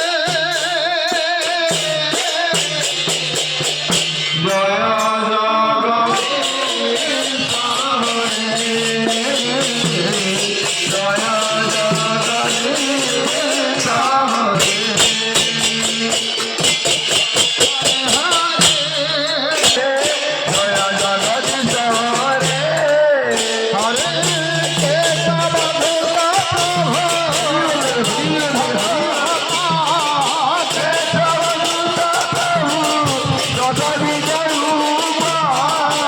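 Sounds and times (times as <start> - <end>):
person singing devotional melody: 0.0 - 36.0
rattling and jingling percussion: 0.0 - 36.0.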